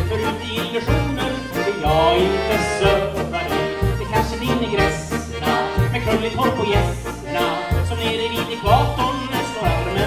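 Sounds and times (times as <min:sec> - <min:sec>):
dance band with accordion: 0:00.0 - 0:10.0.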